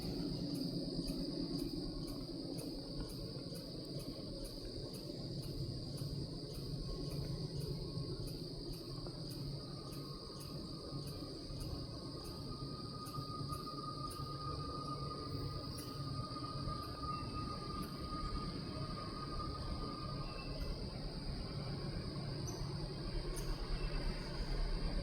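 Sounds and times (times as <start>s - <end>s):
distant locomotive rumble: 0.0s - 25.0s
faint steady whine: 0.0s - 25.0s
insects chirring: 0.0s - 25.0s.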